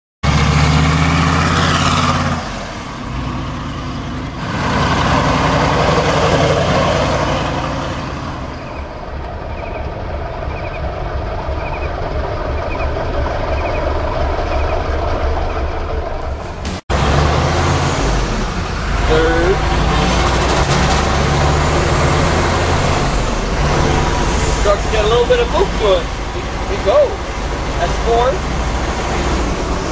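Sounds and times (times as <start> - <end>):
diesel engine running: 0.2 - 29.9.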